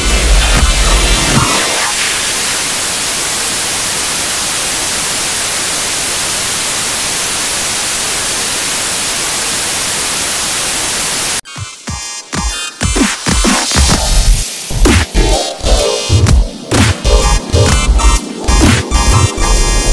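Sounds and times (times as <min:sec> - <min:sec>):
tv static hiss: 0:00.0 - 0:11.4, 0:13.2 - 0:19.9.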